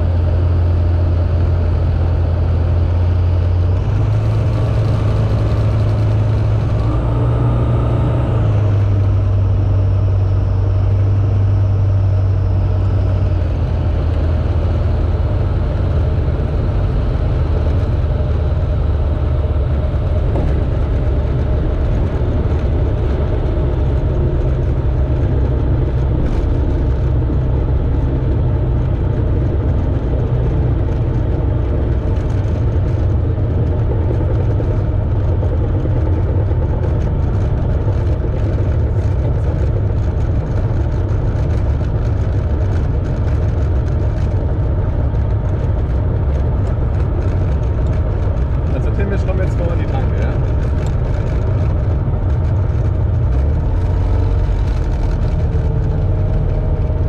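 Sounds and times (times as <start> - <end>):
light aircraft engine and propeller: 0.0 - 57.0.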